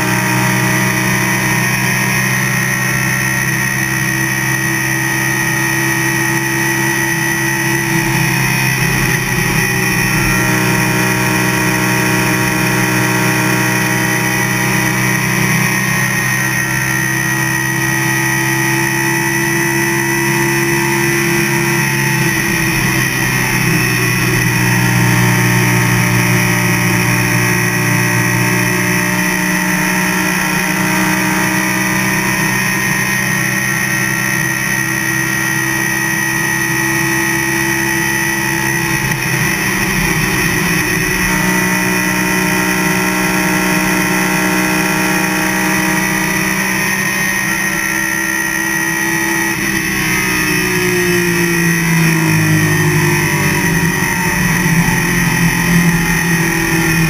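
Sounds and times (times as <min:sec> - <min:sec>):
race car engine droning: 0:00.0 - 0:57.0.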